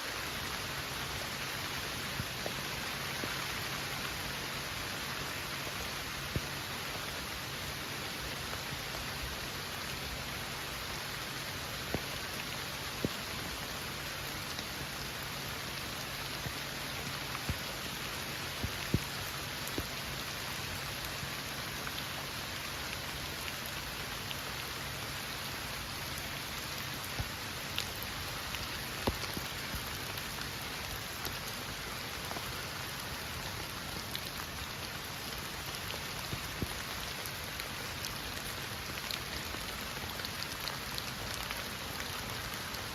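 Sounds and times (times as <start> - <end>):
heavy rain falling: 0.0 - 42.9
raindrops ticking close by: 0.0 - 42.9.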